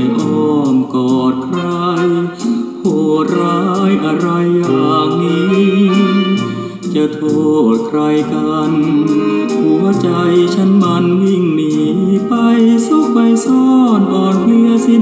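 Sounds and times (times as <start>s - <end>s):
person singing: 0.0s - 15.0s
plucked guitar: 0.0s - 15.0s
song through speakers: 0.0s - 15.0s
steady beat: 0.0s - 15.0s.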